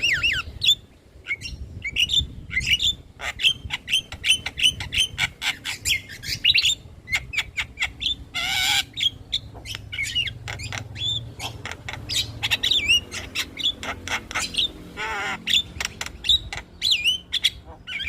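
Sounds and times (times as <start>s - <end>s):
bird chattering and whistling: 0.0s - 18.0s.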